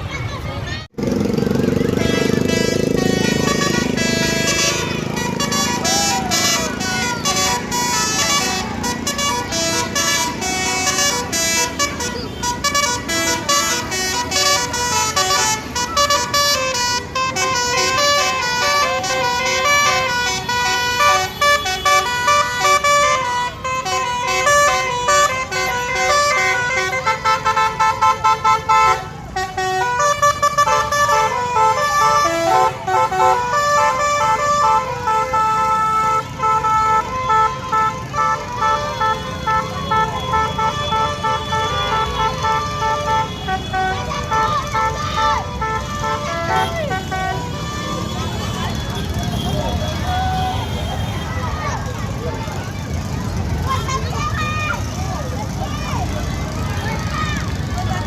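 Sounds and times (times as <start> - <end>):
traffic engine noise: 0.0 - 58.0
musical horn playing a tune: 1.8 - 51.0.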